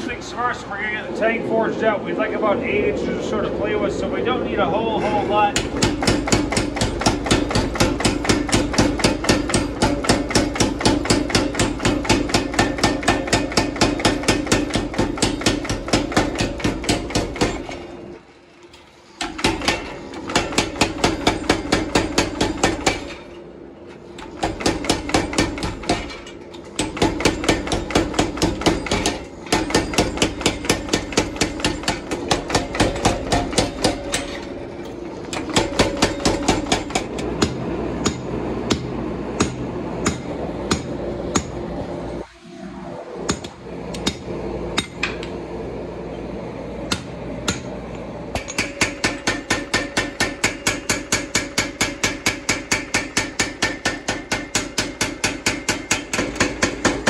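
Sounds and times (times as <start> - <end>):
steady hum: 0.0 - 57.0
power hammer pounding steel: 5.4 - 18.1, 19.2 - 23.4, 24.1 - 41.6, 43.2 - 45.3, 46.9 - 47.8, 48.4 - 57.0.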